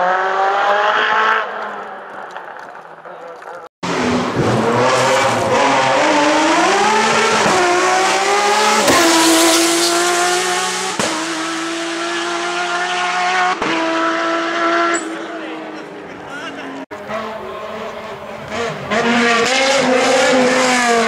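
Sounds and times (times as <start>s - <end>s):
race car engine at high revs: 0.0s - 2.0s, 3.8s - 21.0s.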